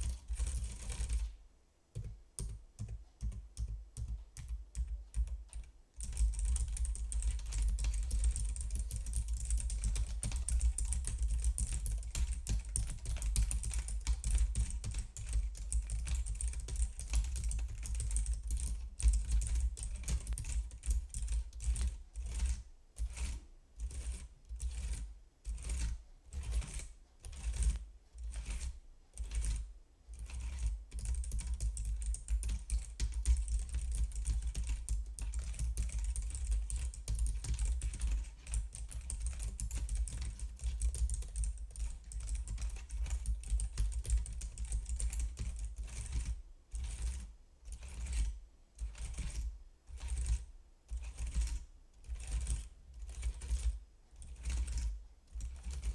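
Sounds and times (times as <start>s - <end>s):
fingers typing on keyboard: 0.0s - 1.3s, 2.0s - 29.6s, 30.2s - 48.3s, 51.0s - 55.9s.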